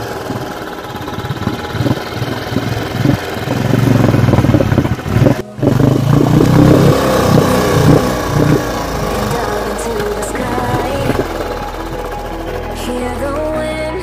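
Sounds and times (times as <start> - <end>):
wheel spinning in water: 0.0 - 13.6
motorcycle engine revving: 0.0 - 14.0.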